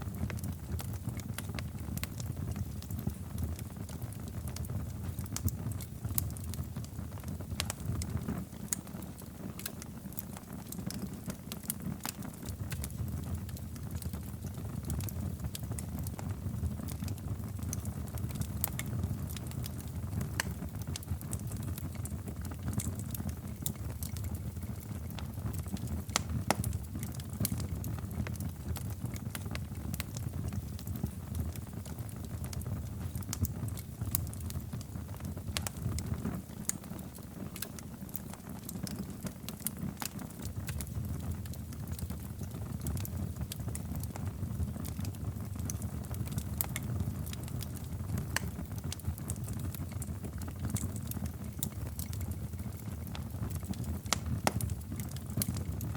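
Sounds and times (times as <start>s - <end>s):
fire crackles and pops: 0.0s - 55.9s
wood fire burning: 0.0s - 55.9s.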